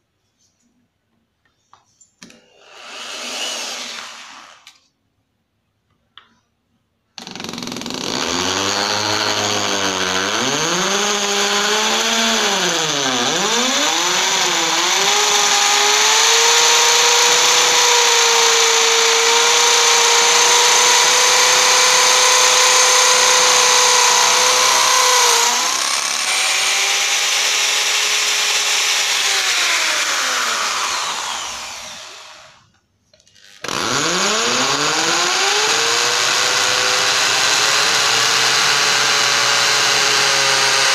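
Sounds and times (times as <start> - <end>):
electric drill boring into masonry: 2.5 - 4.8, 7.2 - 32.7, 33.4 - 40.9.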